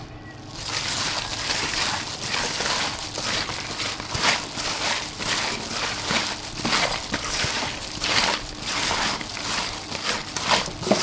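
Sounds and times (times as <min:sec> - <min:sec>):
plastic glove crinkling: 0:00.4 - 0:11.0
shrimp shells rustling in metal bowl: 0:00.5 - 0:11.0.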